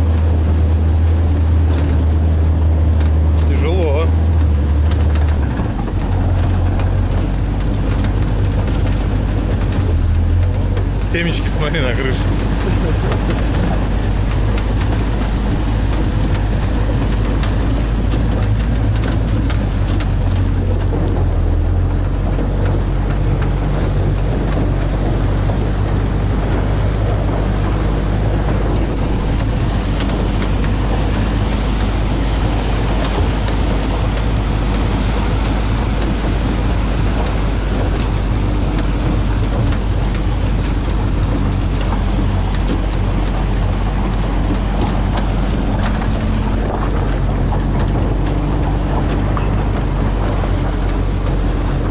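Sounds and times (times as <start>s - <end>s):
diesel engine running under load: 0.0s - 51.9s
water splashing: 0.0s - 51.9s
wind on microphone: 0.0s - 51.9s.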